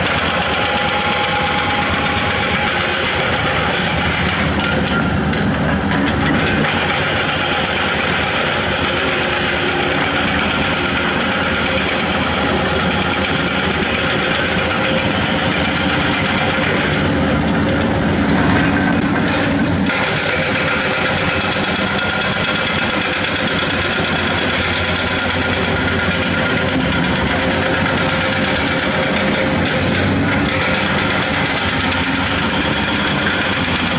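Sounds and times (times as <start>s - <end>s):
excavator diesel engines running: 0.0s - 33.9s.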